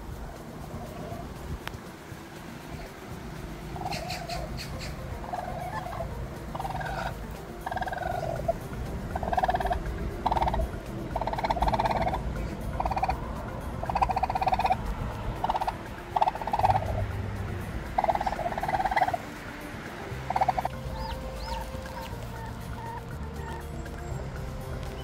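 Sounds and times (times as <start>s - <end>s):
turkey calling: 0.6s - 1.9s, 2.6s - 25.0s.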